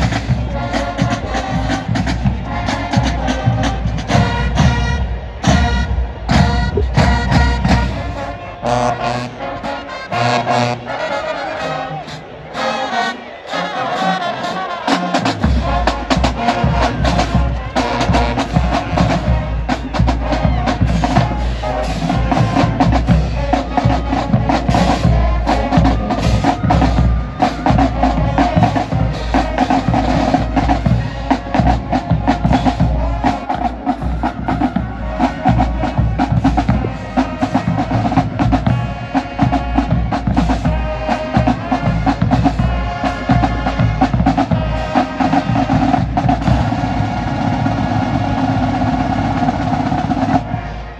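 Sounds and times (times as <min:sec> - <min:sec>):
snare and bass drums beating: 0:00.0 - 0:08.3, 0:15.3 - 0:50.5
held horn notes: 0:00.0 - 0:50.9
marching band playing: 0:00.0 - 0:50.9.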